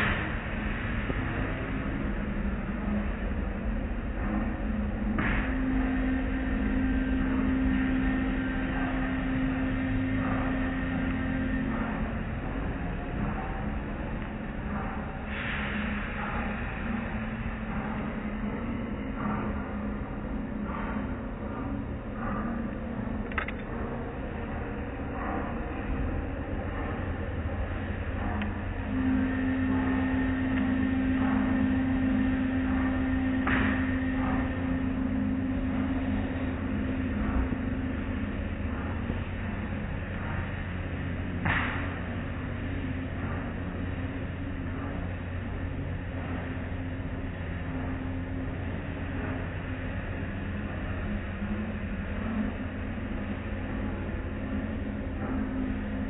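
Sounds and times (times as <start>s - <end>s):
low rumble: 0.0s - 56.0s
steady hum: 0.0s - 56.0s.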